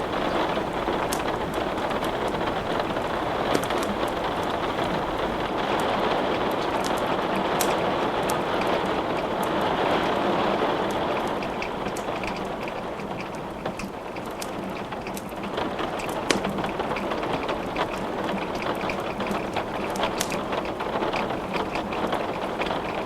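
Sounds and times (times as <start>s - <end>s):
steady rain hiss: 0.0s - 23.0s
wood fire crackling: 0.0s - 23.0s.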